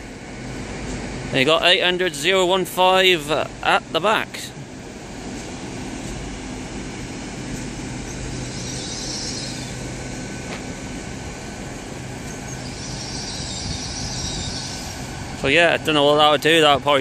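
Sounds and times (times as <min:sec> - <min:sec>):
diesel train low hum: 0:00.0 - 0:17.0.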